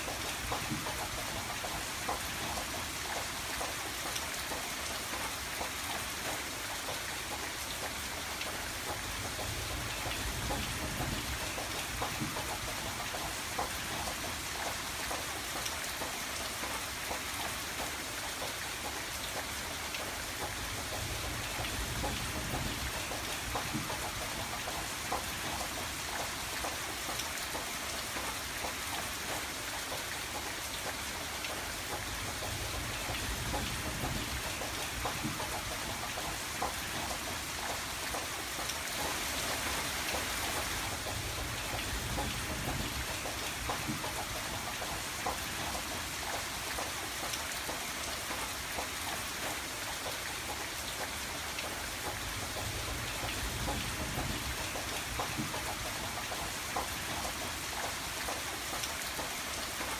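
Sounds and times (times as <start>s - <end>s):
rain tapping on window glass: 0.0s - 59.9s.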